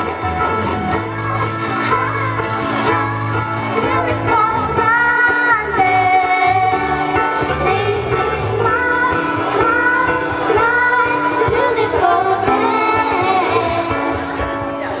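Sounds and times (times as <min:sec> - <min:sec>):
ukulele group playing: 0:00.0 - 0:14.8
people singing: 0:00.9 - 0:15.0.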